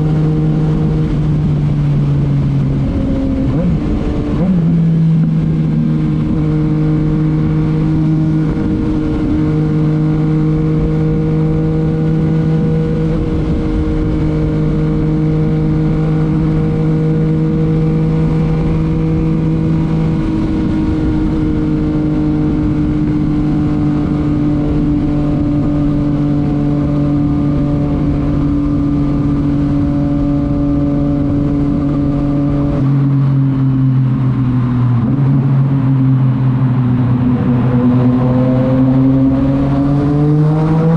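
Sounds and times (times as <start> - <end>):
constant low rush: 0.0 - 40.9
motorcycle engine cruising: 0.0 - 40.9.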